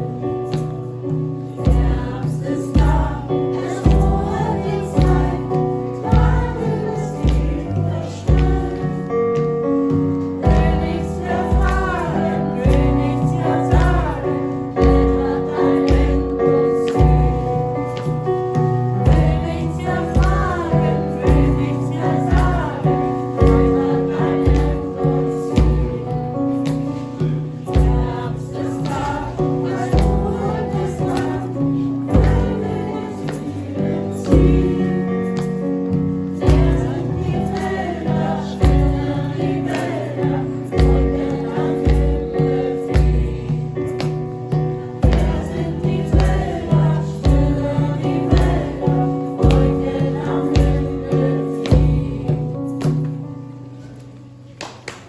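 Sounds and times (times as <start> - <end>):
choir singing: 0.0 - 53.1
instrumental accompaniment with beat: 0.0 - 55.0.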